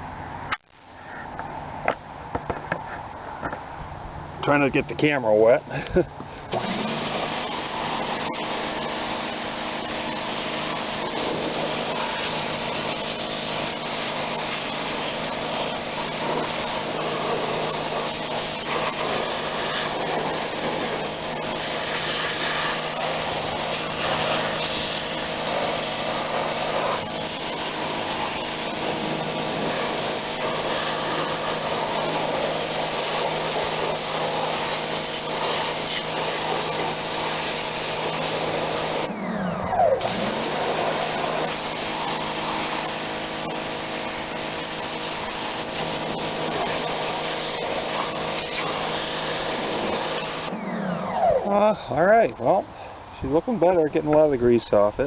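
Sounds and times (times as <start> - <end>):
pressure washer motor humming: 6.2 - 54.8
high-pressure water jet hissing: 6.5 - 51.7.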